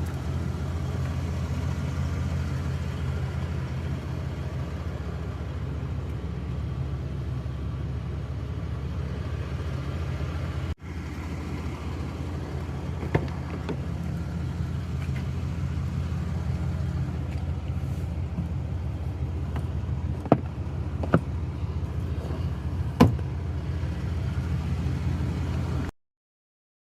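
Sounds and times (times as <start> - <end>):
diesel truck engine idling: 0.0 - 25.9.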